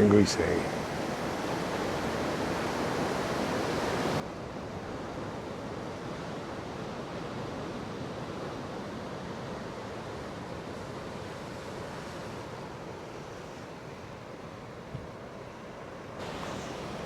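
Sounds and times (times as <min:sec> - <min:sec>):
rough sea surf: 0:00.0 - 0:17.0
wind: 0:00.0 - 0:17.0.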